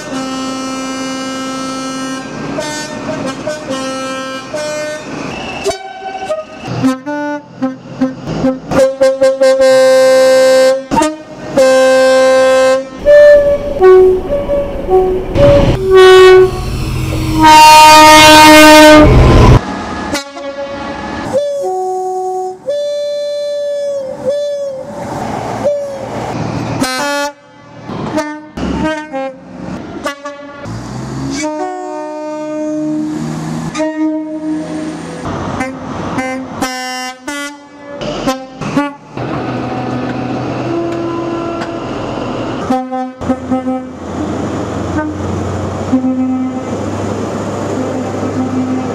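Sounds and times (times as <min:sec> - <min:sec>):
train running noise: 0:00.0 - 0:09.5, 0:12.9 - 0:22.8, 0:23.7 - 0:48.9
two-tone train horns: 0:00.0 - 0:25.0, 0:26.8 - 0:34.9, 0:35.6 - 0:42.0, 0:42.6 - 0:44.0, 0:44.8 - 0:46.8, 0:47.8 - 0:48.9.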